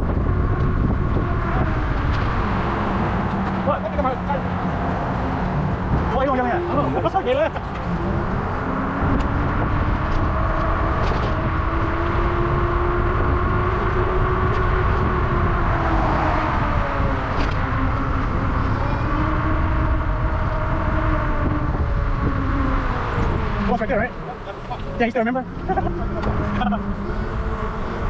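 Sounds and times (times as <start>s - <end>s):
electric motor whine: 0.0s - 28.0s
wind rushing over microphone: 0.0s - 28.0s.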